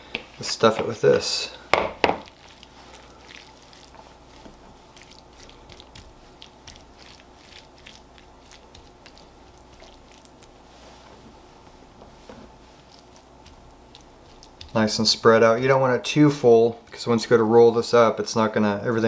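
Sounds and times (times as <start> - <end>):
soft moist squishing: 0.0 - 19.0.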